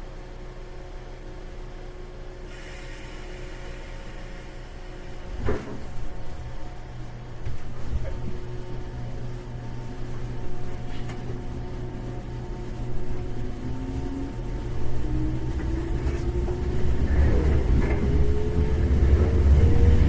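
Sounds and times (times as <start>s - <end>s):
train wheels rumbling on rails: 2.5s - 20.0s.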